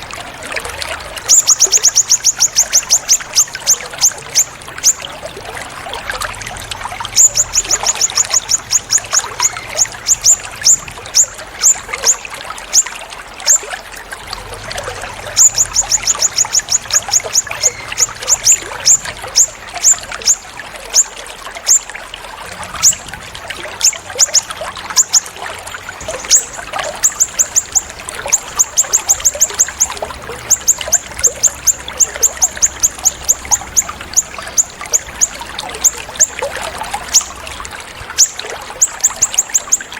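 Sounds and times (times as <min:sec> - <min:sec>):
songbird calls: 0:00.0 - 0:39.9
trickling water: 0:00.0 - 0:39.9.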